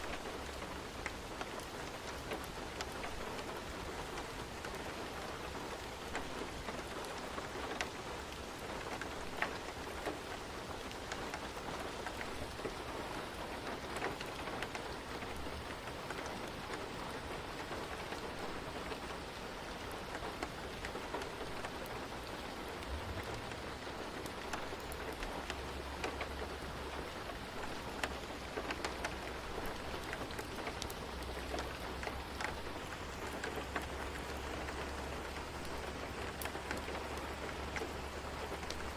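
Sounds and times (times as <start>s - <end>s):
raindrops ticking on a surface: 0.0s - 38.9s
steady rain falling: 0.0s - 38.9s.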